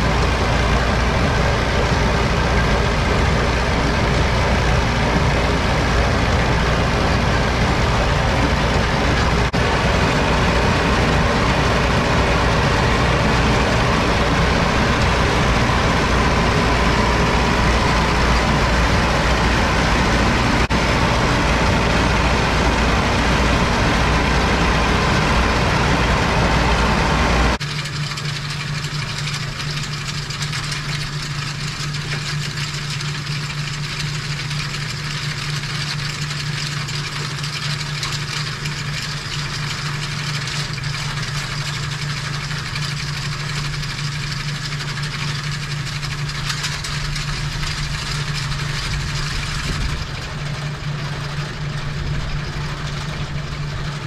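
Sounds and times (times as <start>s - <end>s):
bale elevator humming: 0.0s - 54.0s
tractor engine running: 0.0s - 54.0s.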